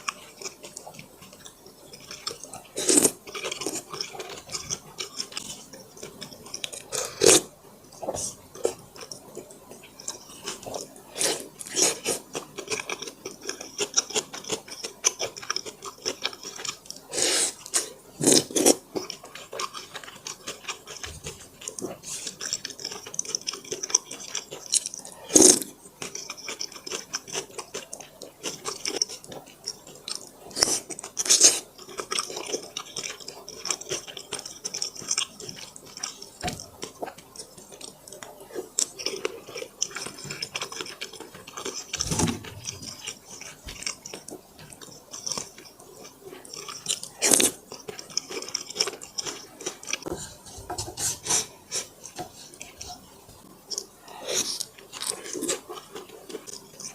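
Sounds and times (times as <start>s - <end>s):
chewing with wet mouth clicks: 0.0s - 7.4s, 8.6s - 50.1s, 51.2s - 56.9s.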